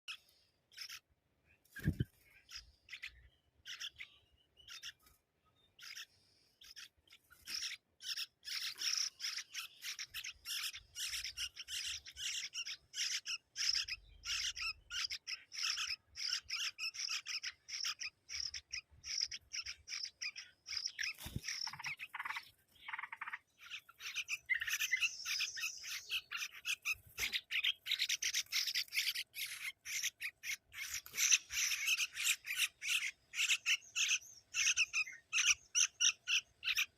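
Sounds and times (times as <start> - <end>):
chicks chirping high-pitched: 0.1 - 36.9.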